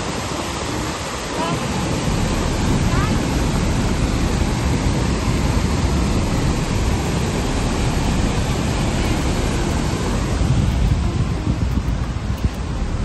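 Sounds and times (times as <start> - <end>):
river water rushing over cascade: 0.0 - 13.0.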